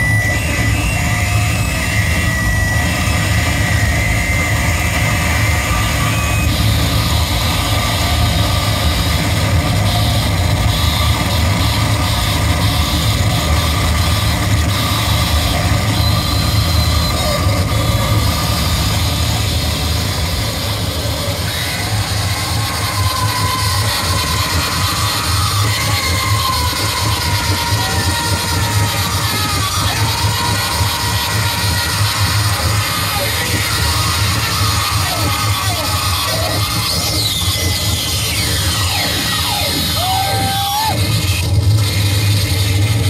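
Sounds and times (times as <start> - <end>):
heavy low rumble: 0.0 - 36.0
distorted noise music: 0.0 - 43.0.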